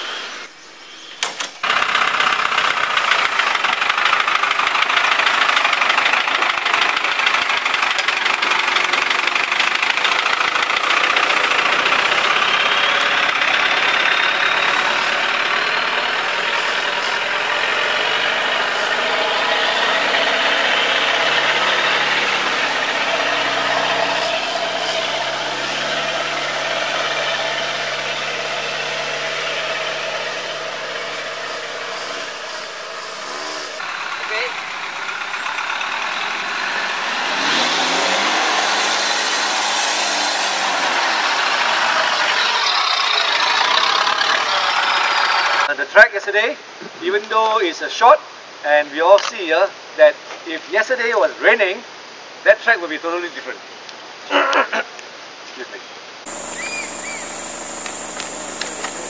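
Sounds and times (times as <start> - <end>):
engines idling: 0.0 - 45.7, 56.2 - 59.0
loud steady hiss: 0.0 - 59.0.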